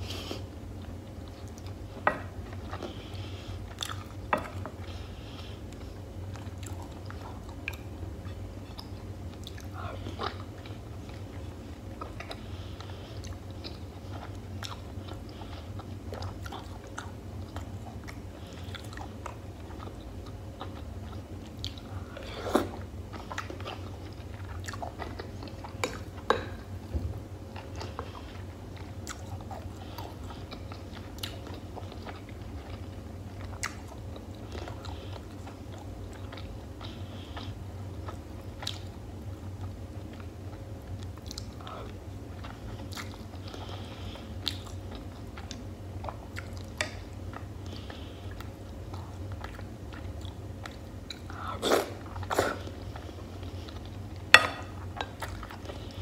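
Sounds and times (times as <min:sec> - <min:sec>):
steady low hum: 0:00.0 - 0:56.0
person chewing wet mouth sounds: 0:00.3 - 0:56.0.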